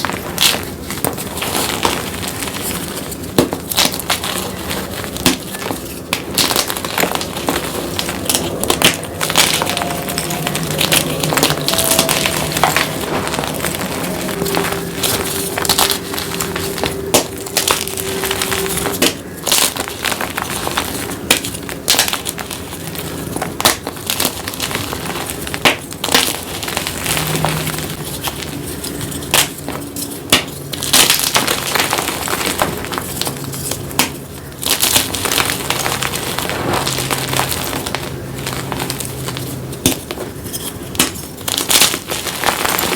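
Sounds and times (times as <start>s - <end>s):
chalk crunching and crackling: 0.0s - 42.9s.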